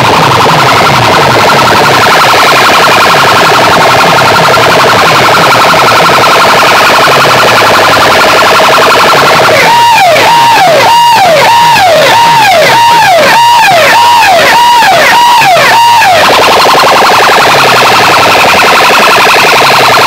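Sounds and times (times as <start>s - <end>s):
pulsing warble alarm: 0.0s - 20.0s
wailing siren: 0.0s - 20.0s.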